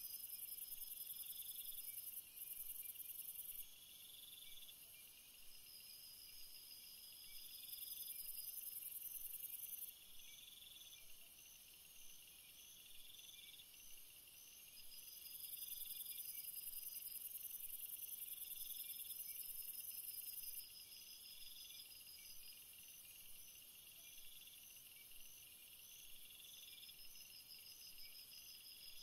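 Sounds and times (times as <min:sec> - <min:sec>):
faint insect chirping: 0:00.0 - 0:29.0.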